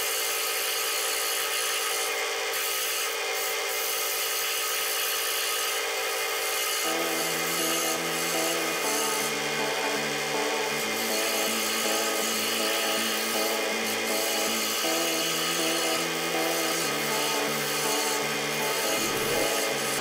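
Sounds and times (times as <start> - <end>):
scroll saw cutting wood: 0.0 - 20.0.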